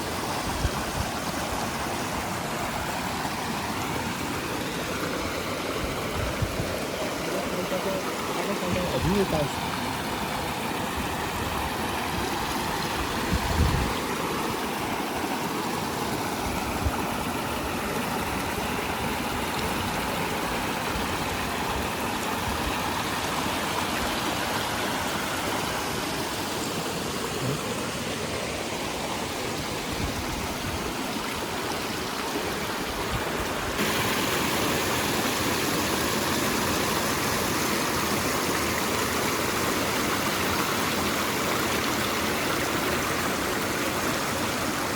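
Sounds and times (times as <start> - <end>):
rushing mountain water: 0.0 - 44.9.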